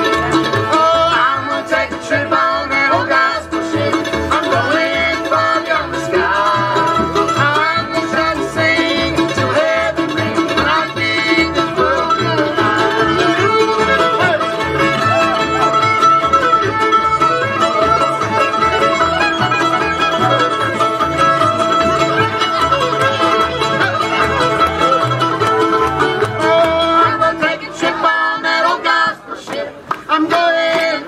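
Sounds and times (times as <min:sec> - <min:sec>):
fiddle: 0:00.0 - 0:30.9
acoustic guitar: 0:00.0 - 0:31.0
upright bass: 0:00.0 - 0:31.0.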